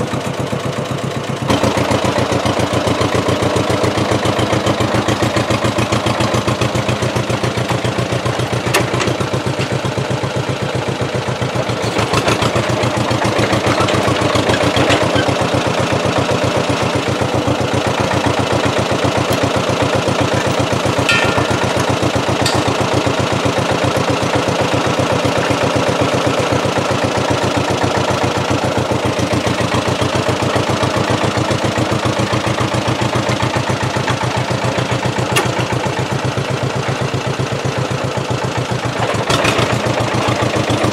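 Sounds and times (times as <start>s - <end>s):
bulldozer engine running: 0.0s - 40.9s.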